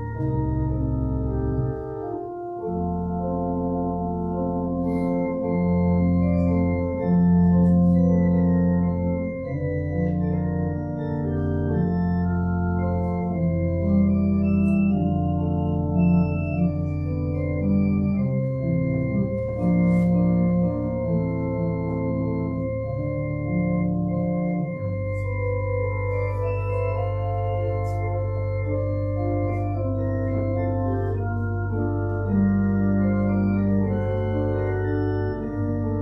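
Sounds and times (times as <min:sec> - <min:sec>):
organ playing sustained chords: 0:00.0 - 0:36.0.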